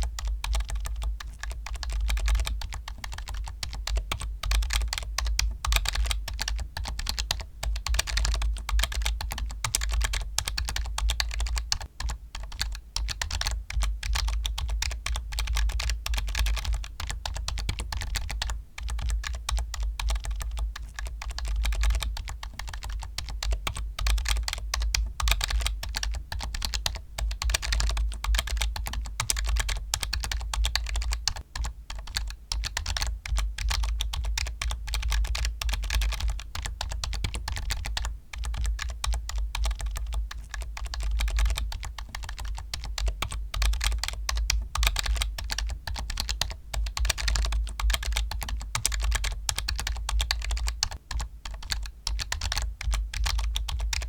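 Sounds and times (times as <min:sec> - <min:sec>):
fast typing on a keyboard: 0:00.0 - 0:54.0.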